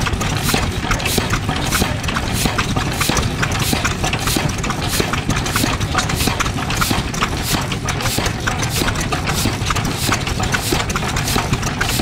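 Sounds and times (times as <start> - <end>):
diesel engine rumble: 0.0 - 12.0
valve gear clacking: 0.0 - 12.0.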